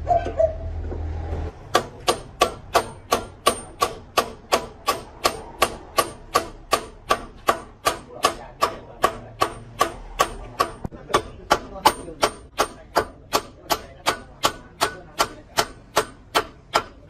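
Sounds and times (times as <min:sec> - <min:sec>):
hammer striking metal: 0:01.5 - 0:17.0.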